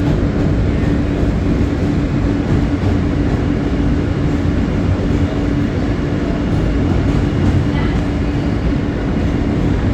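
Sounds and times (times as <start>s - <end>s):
subway train rumbling on rails: 0.0s - 9.9s.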